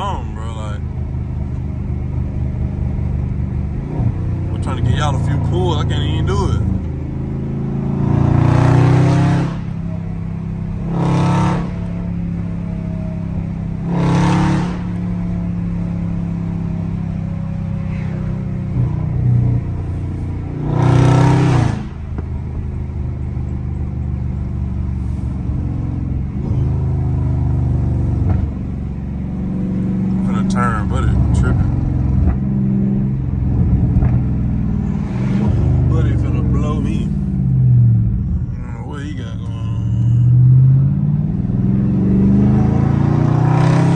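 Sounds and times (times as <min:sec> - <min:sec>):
car engine droning at cruise: 0:00.0 - 0:43.9.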